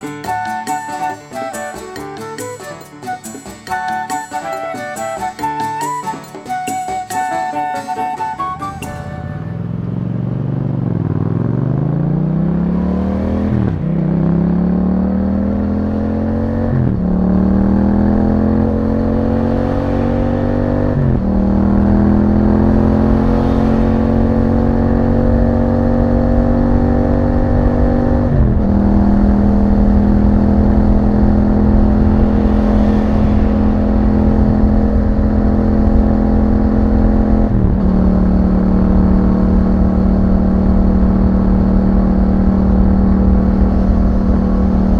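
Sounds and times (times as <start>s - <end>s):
motorcycle engine accelerating: 8.8s - 44.9s.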